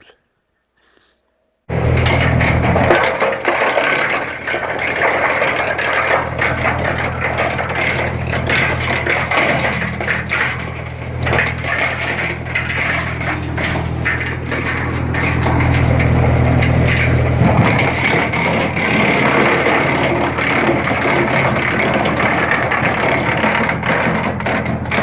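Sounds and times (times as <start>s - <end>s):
tractor engine hum: 1.7s - 25.0s
wood chipper crunching branches: 1.7s - 25.0s.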